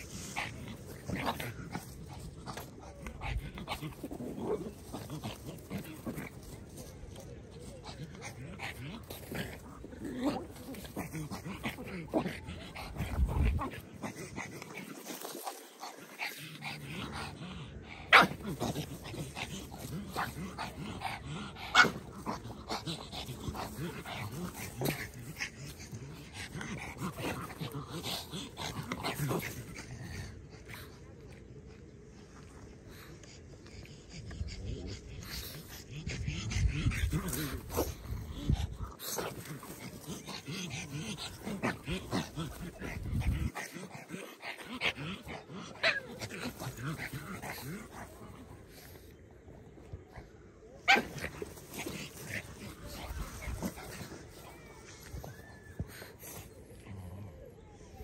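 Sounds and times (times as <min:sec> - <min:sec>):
dogs growling and grunting: 0:00.0 - 0:58.0.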